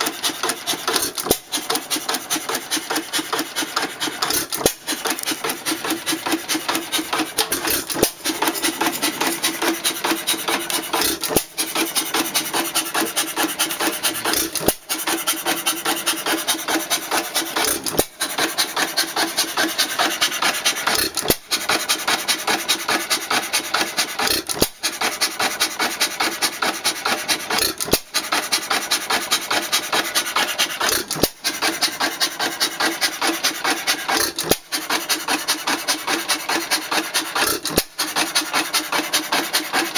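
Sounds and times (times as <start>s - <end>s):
engine rasping clatter: 0.0s - 39.9s.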